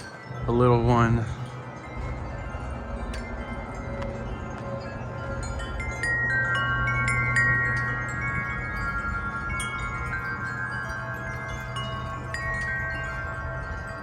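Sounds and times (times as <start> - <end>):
low rumble of wind: 0.0 - 14.0
wind chimes ringing: 0.0 - 14.0.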